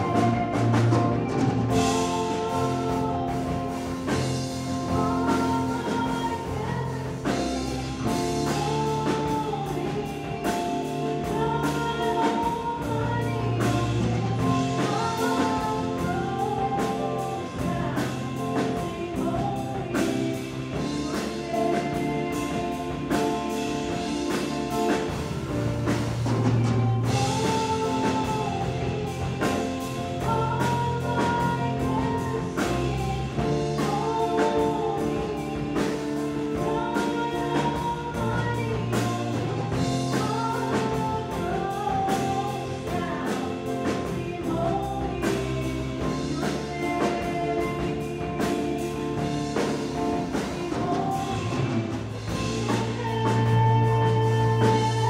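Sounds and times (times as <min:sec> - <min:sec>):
drums: 0:00.0 - 0:55.0
person singing melody: 0:00.0 - 0:55.0
sustained bass notes: 0:00.0 - 0:55.0
worship band playing: 0:00.0 - 0:55.0.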